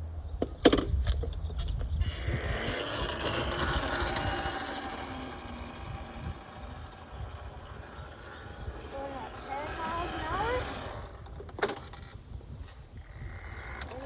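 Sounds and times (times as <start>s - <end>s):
tyre and wind noise: 0.0s - 14.0s
electric dirt bike motor whine: 1.9s - 14.0s.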